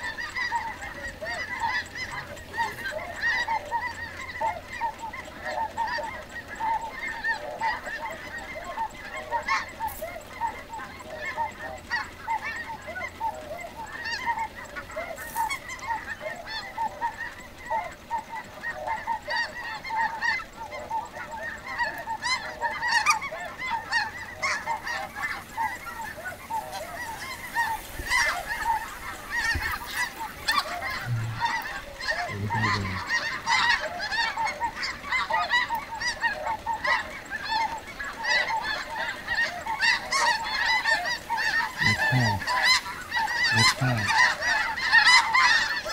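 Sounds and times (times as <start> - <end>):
flock of geese honking: 0.0 - 45.9.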